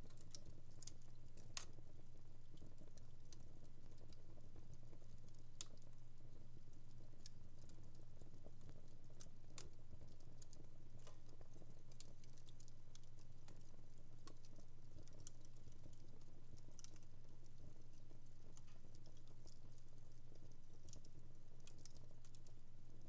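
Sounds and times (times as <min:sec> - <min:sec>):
wood fire crackling: 0:00.1 - 0:23.0.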